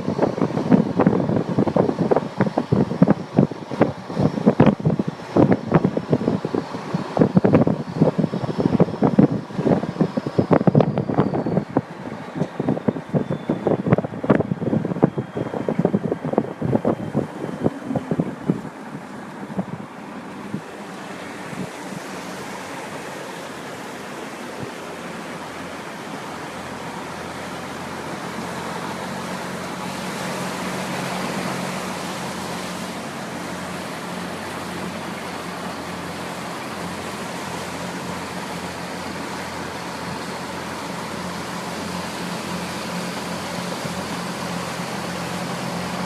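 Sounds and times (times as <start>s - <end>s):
low engine drone: 0.0s - 46.0s
water rushing: 0.0s - 46.0s.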